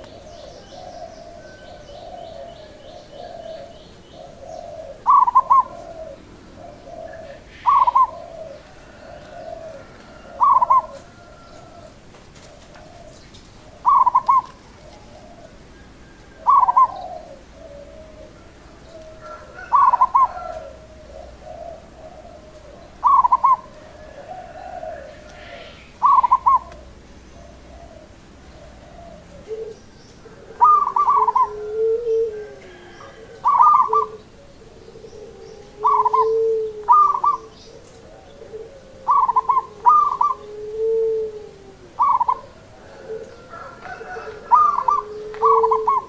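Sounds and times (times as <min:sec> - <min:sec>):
dove trilled coo: 0:00.0 - 0:46.0
soft low coo notes: 0:00.0 - 0:46.0.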